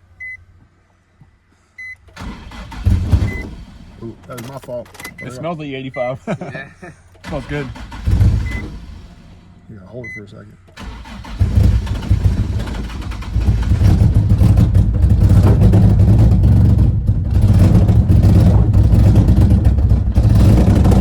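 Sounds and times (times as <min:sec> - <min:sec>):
car engine running unevenly: 0:02.1 - 0:21.0.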